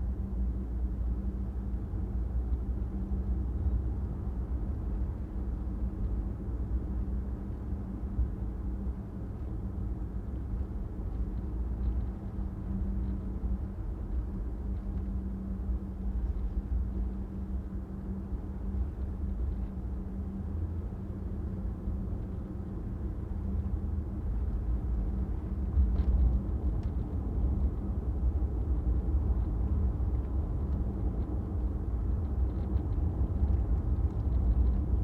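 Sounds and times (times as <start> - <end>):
car tyre and engine rumble: 0.0 - 35.0.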